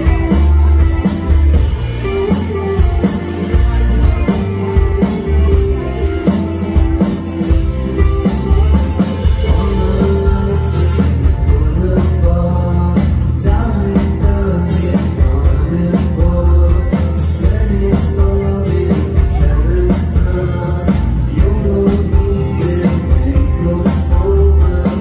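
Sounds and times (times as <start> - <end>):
drum kit with cymbal hits: 0.0 - 25.0
electric bass: 0.0 - 25.0
guitar: 0.0 - 25.0
keyboards: 0.0 - 25.0
man singing: 0.0 - 25.0.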